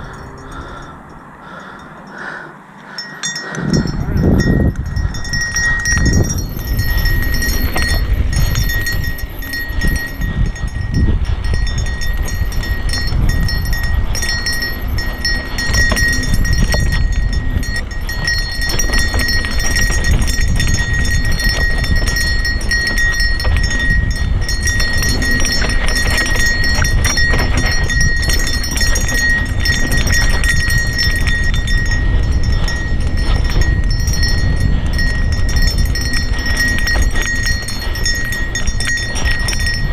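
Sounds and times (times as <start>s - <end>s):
bike rattling and clattering: 0.0s - 39.9s
wind rumble on microphone: 0.0s - 39.9s
tyres crunching over dirt: 2.9s - 39.9s.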